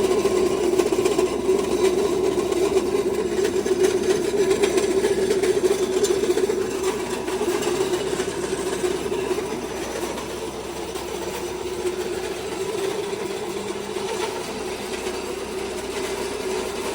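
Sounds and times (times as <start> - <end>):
feed mill mechanical drone: 0.0 - 16.9.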